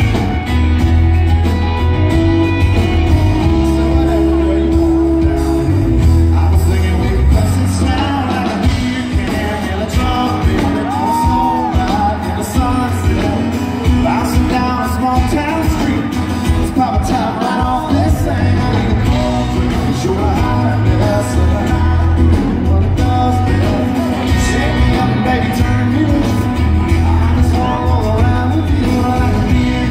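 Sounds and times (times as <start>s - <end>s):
crowd noise: 0.0s - 29.9s
live country band: 0.0s - 29.9s
man singing: 2.2s - 29.9s.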